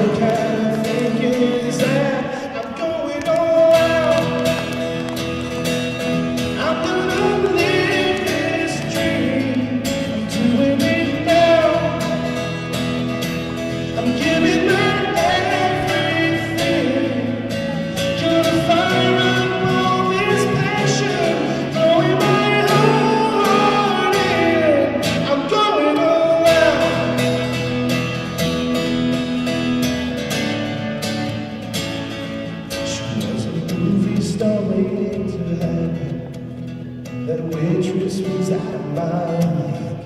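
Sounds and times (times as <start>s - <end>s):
man singing: 0.0s - 5.1s, 5.8s - 27.8s, 32.7s - 40.0s
guitar accompaniment: 0.0s - 40.0s.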